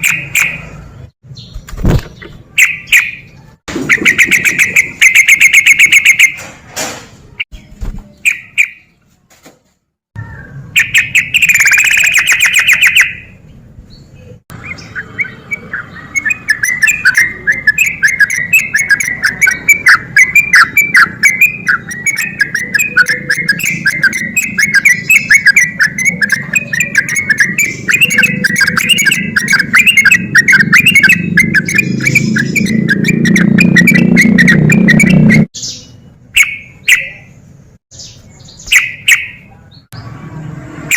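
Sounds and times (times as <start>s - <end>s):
bulbul singing: 0.0s - 6.4s, 7.5s - 9.0s, 10.2s - 40.1s.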